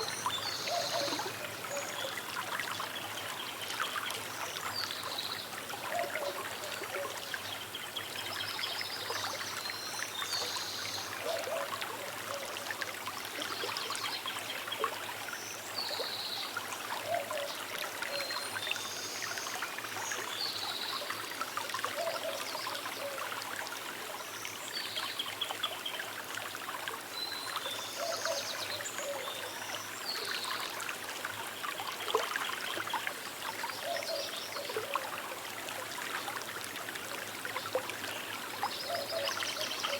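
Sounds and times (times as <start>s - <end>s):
small river trickling: 0.0s - 39.9s.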